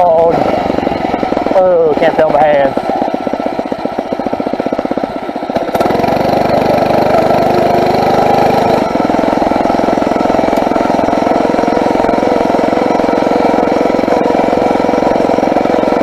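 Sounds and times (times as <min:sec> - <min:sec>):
motorized bicycle engine: 0:00.0 - 0:16.0.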